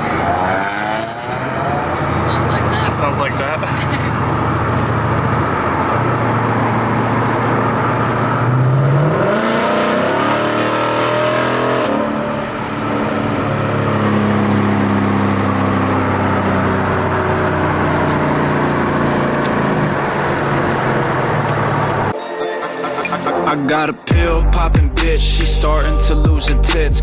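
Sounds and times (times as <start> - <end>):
loud car engine exhaust drone: 0.0 - 22.1.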